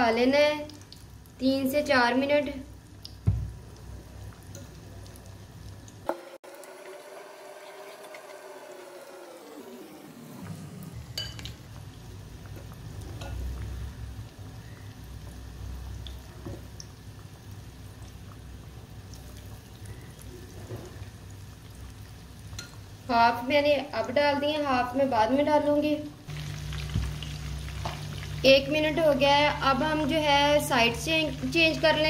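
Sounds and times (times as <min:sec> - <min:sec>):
chicken deep-frying in oil: 0:00.0 - 0:32.0.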